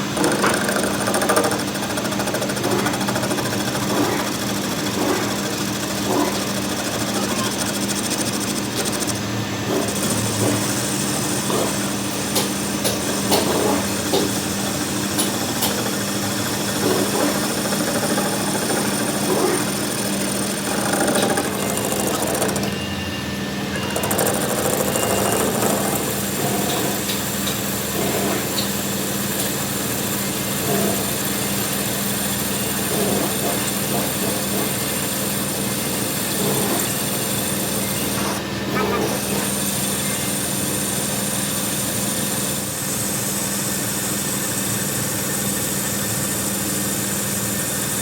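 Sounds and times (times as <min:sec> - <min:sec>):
machine motor humming: 0:00.0 - 0:48.0.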